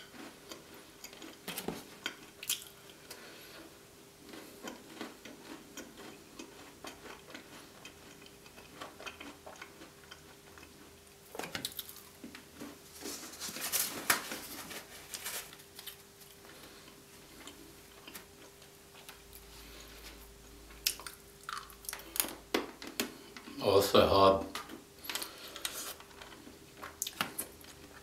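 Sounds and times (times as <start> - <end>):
crunching gingerbread: 0.0 - 22.4, 24.6 - 28.0.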